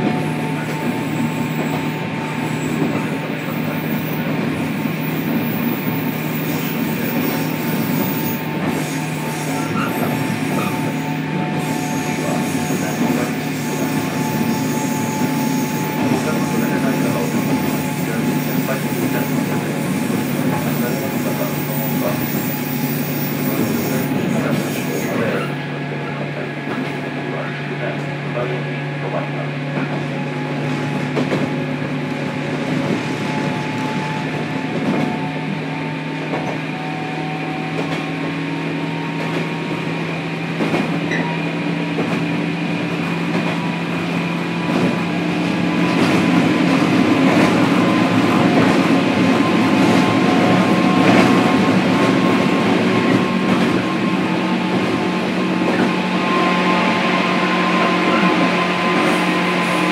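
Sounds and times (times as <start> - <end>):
train motor hum: 0.0 - 59.9.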